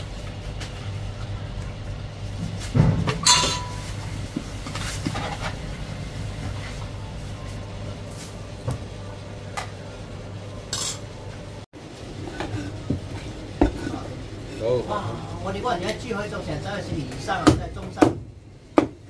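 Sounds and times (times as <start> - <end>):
steady low background hum: 0.0 - 19.0.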